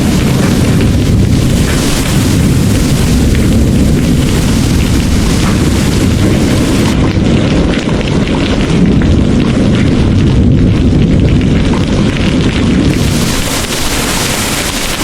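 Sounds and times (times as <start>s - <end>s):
heavy rain pouring: 0.0s - 15.0s
rolling thunder: 0.0s - 15.0s.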